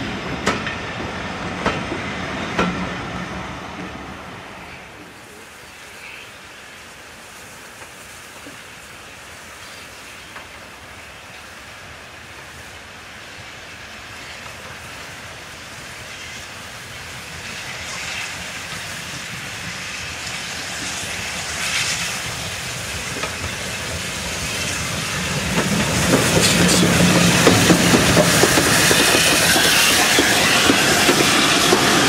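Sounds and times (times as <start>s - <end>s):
steam train approaching: 0.0s - 32.0s.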